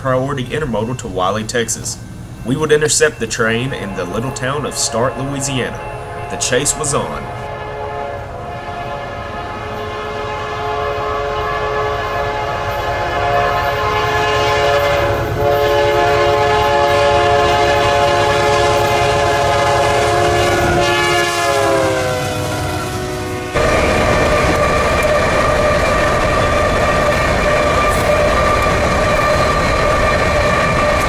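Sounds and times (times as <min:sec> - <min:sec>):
low rumble of train: 0:00.0 - 0:31.0
locomotive air horn: 0:03.8 - 0:31.0.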